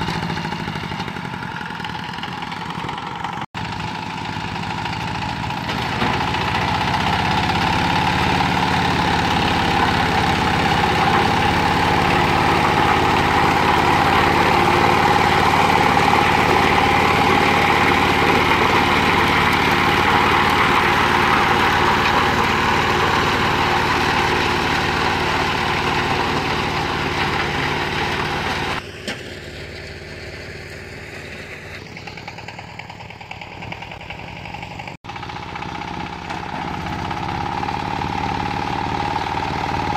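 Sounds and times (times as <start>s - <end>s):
rotary tiller working soil: 0.0s - 39.9s
tractor engine under load: 0.0s - 39.9s.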